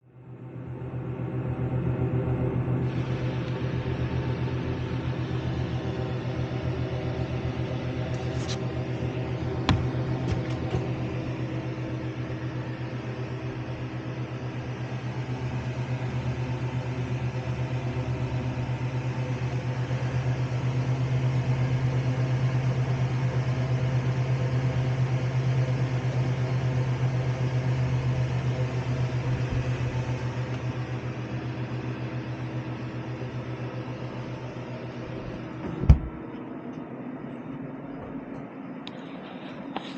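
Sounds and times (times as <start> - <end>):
incubator electric hum: 0.0 - 39.9.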